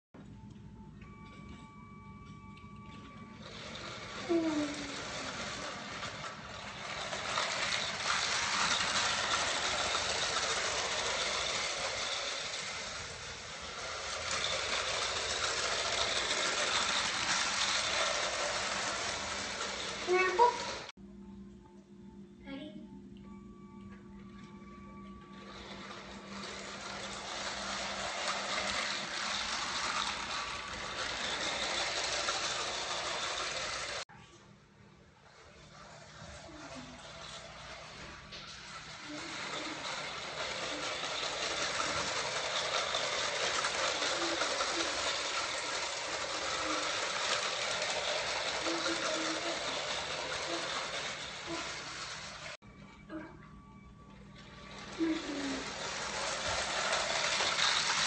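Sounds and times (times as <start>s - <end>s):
toy motor and gears whirring: 2.6s - 20.9s, 25.1s - 34.1s, 35.2s - 52.6s, 54.4s - 58.0s
wheels rattling on plastic track: 2.9s - 20.9s, 25.2s - 34.0s, 35.3s - 52.6s, 54.4s - 58.0s.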